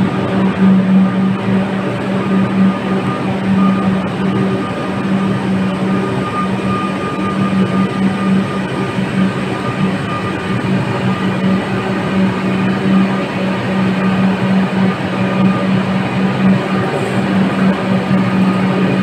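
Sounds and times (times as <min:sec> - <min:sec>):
electric train running hum: 0:00.0 - 0:19.0
high-pitched whine: 0:00.0 - 0:19.0.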